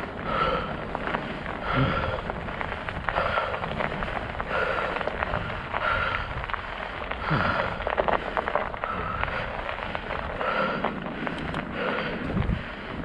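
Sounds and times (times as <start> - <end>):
bike tyres crunching over snow: 0.0 - 13.0.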